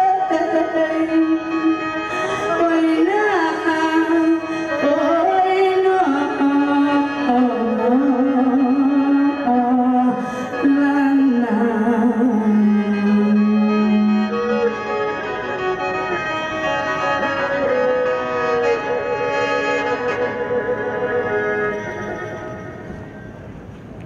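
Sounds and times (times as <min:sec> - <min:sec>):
instrumental backing: 0:00.0 - 0:24.0.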